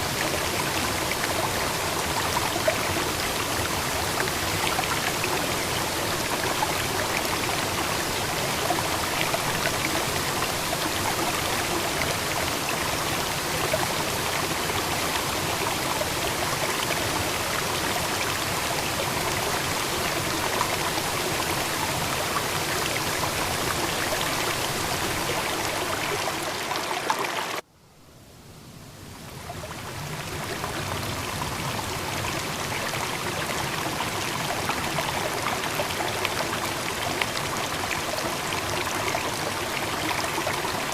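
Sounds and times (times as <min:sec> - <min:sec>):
flowing water rushing: 0:00.0 - 0:27.7, 0:29.0 - 0:40.9.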